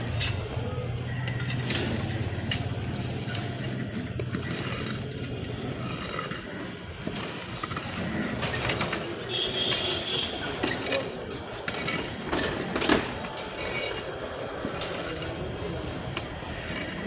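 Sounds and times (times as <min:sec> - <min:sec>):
metallic clattering and scraping: 0:00.0 - 0:17.0
steady mechanical background: 0:00.0 - 0:17.0.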